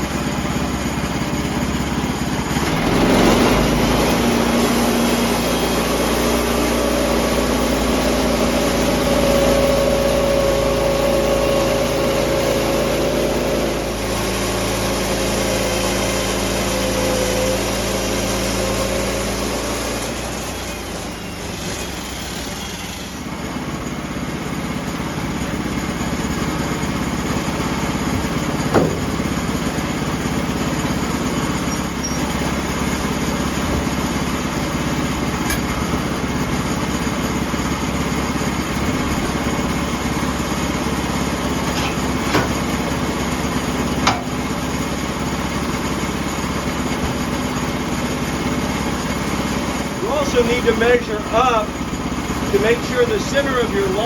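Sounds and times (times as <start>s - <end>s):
small gasoline engine running: 0.0s - 54.0s.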